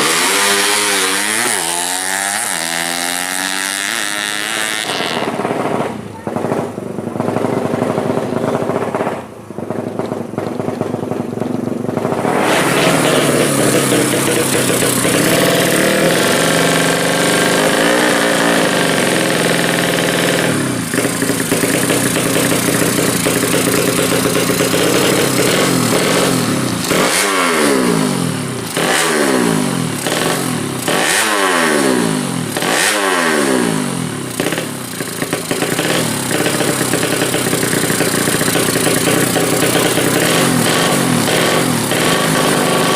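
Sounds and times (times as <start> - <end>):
quick throttle blips: 0.0 - 31.4, 34.3 - 42.9
motorcycle engine revving: 0.0 - 42.9.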